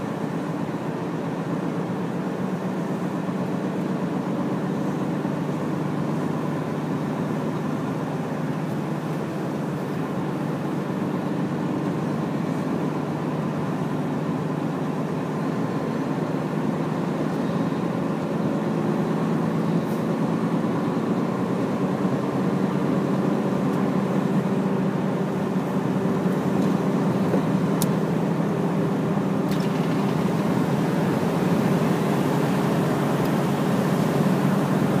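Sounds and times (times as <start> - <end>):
road noise: 0.0 - 35.0
truck diesel engine running: 0.0 - 35.0.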